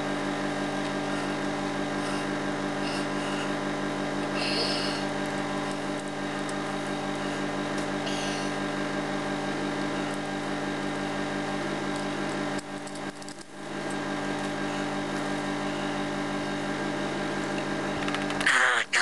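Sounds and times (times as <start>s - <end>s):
steady multi-tone hum: 0.0s - 19.0s.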